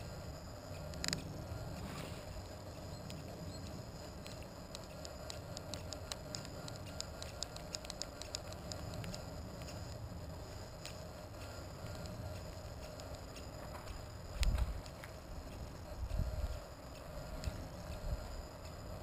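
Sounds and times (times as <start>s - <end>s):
multicopter motors humming: 0.0s - 19.0s.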